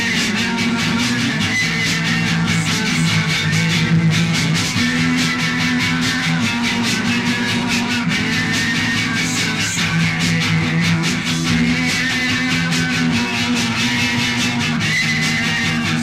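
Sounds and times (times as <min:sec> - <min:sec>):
bass guitar: 0:00.0 - 0:16.0
electric guitar: 0:00.0 - 0:16.0
steady drum beat: 0:00.0 - 0:16.0.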